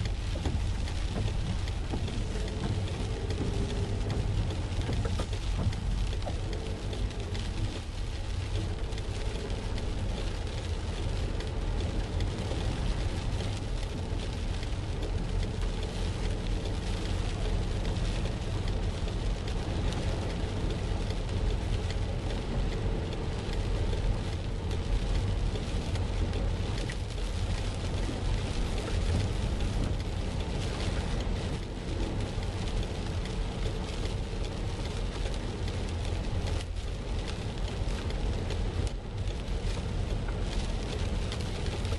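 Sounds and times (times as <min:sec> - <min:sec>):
car rumbling: 0:00.0 - 0:41.9.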